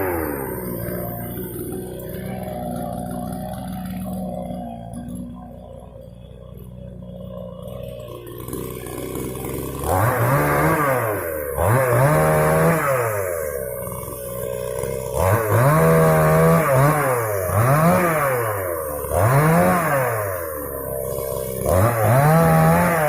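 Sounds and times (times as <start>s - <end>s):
chainsaw revving cutting wood: 0.0s - 23.0s.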